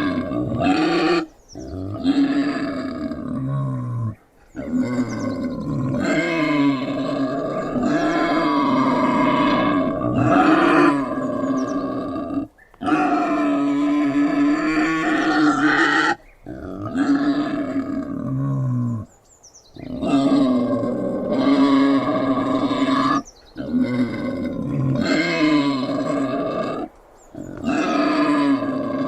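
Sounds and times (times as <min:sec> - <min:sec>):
wild boar grunting: 0:00.0 - 0:19.1, 0:19.8 - 0:29.0.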